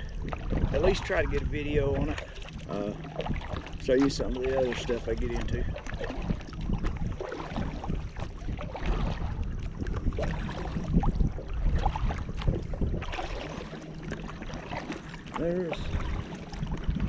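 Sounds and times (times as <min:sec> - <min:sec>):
water splashing against kayak: 0:00.0 - 0:17.0
wind rumble on microphone: 0:00.0 - 0:17.0.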